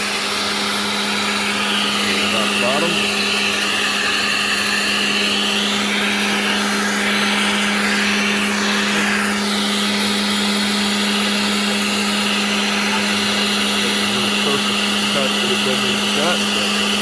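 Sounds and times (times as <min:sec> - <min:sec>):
cutting noise hiss: 0:00.0 - 0:17.0
router spindle humming: 0:00.0 - 0:17.0.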